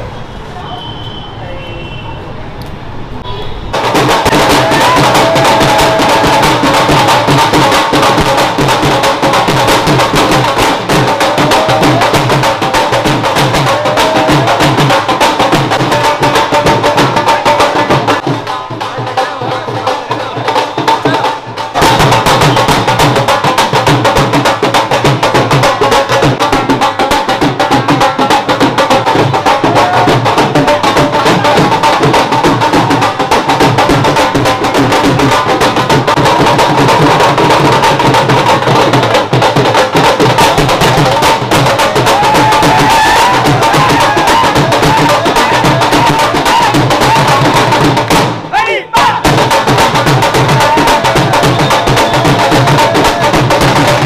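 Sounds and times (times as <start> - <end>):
music with fast percussion beat: 3.7 - 54.0.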